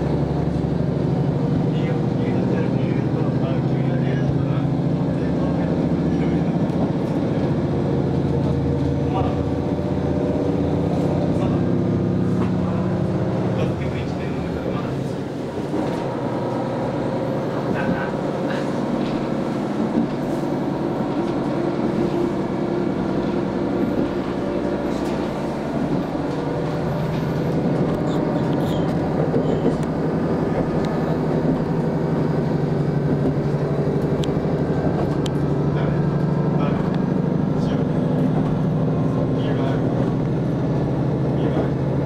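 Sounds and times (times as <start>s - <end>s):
diesel railcar engine drone: 0.0s - 42.0s
train running noise: 0.0s - 42.0s.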